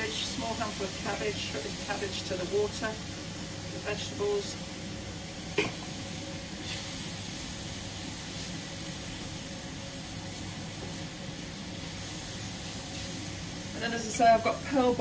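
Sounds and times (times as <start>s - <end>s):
vegetables hissing in wok: 0.0s - 15.0s.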